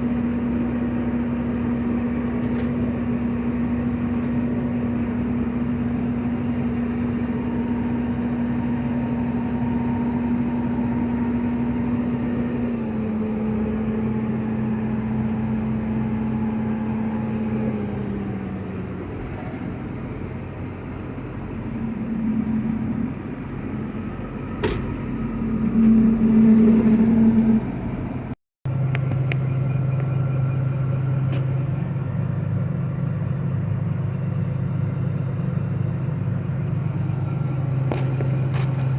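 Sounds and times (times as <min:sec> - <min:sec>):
harvester engine running: 0:00.0 - 0:38.9.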